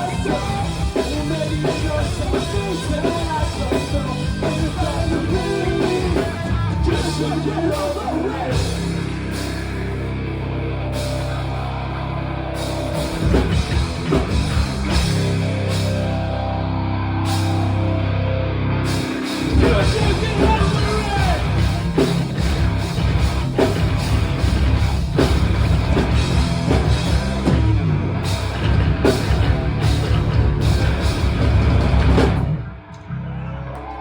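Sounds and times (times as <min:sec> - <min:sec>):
heavy rock band playing: 0:00.0 - 0:34.0.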